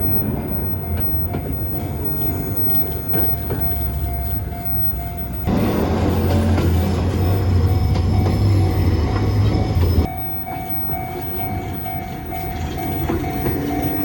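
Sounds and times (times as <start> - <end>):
steady pulsing tone: 0.0 - 14.0
train rumbling: 0.0 - 14.0.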